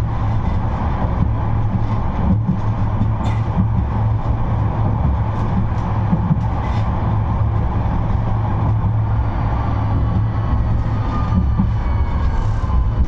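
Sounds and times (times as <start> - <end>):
tram rumbling and humming: 0.0 - 13.0.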